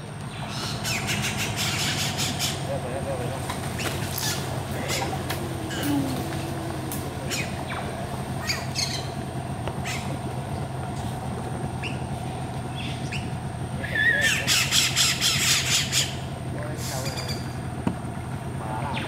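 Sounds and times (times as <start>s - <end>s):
warbled bird call: 0.0s - 17.8s
birds squawking and chirping: 0.0s - 19.0s
steady low hum: 0.0s - 19.0s.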